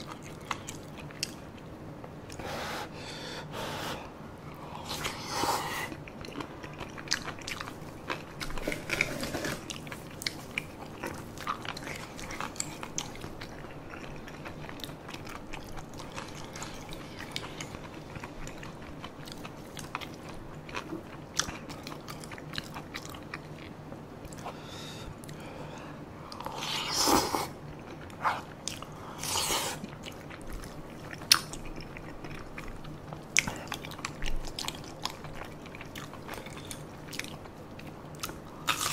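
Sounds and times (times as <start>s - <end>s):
close-miked chewing: 0.0s - 2.5s, 4.6s - 38.9s.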